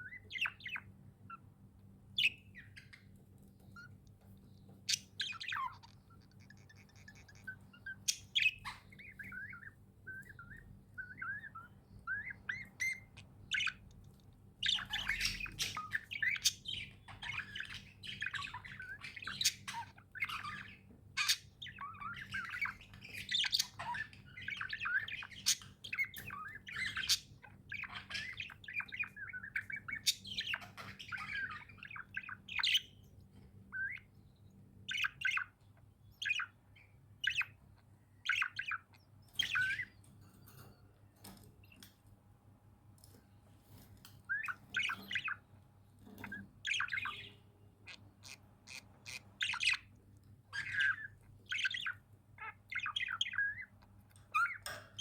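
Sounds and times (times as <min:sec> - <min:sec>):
budgerigars chirping and chattering: 0:00.0 - 0:42.1, 0:43.0 - 0:55.0.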